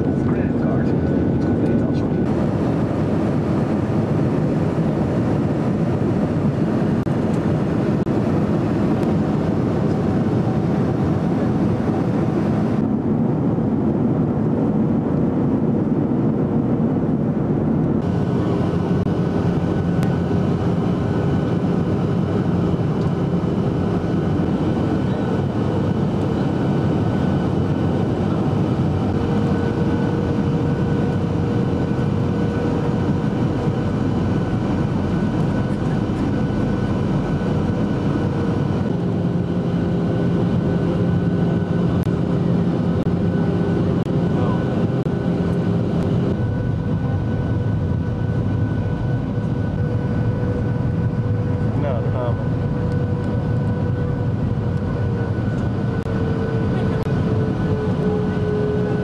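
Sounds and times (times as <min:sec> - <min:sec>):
airplane cabin engine and airflow noise: 0:00.0 - 0:59.0.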